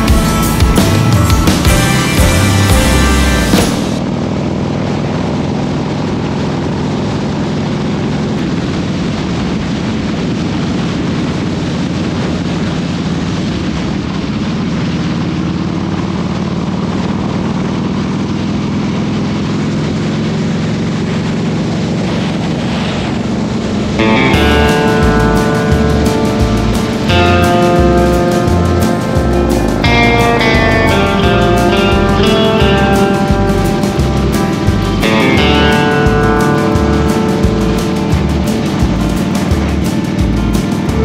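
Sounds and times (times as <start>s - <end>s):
motorcycle engine hum: 0.0s - 41.0s
wind and road noise: 0.0s - 41.0s.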